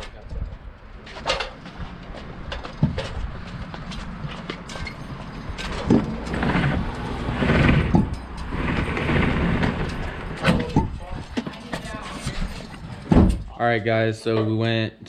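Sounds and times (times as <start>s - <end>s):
slatted truck bed cover rattling: 1.1s - 13.5s.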